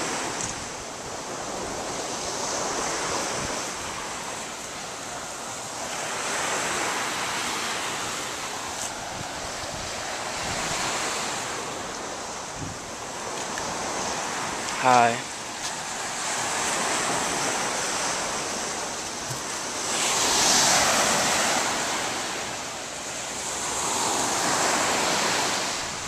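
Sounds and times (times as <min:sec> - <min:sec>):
surf washing onto beach: 0:00.0 - 0:26.0
wind: 0:00.0 - 0:26.0.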